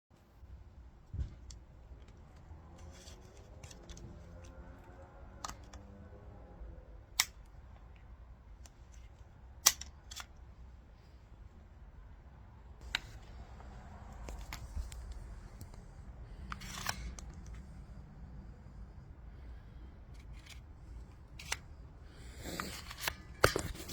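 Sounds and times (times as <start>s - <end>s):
low steady hum: 0.2s - 23.9s.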